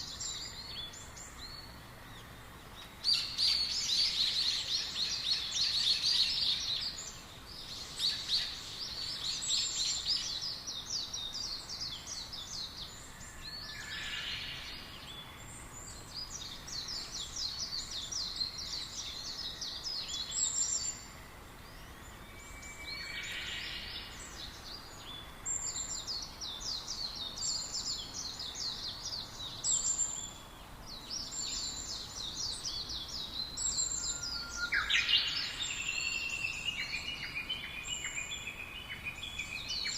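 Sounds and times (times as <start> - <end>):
small birds chirping: 0.0 - 39.9
lower bird calls: 3.1 - 39.9.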